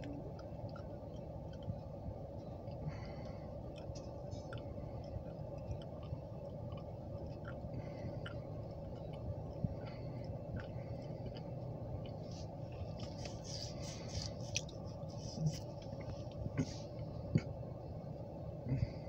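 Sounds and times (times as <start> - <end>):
car engine rumble: 0.0 - 19.0.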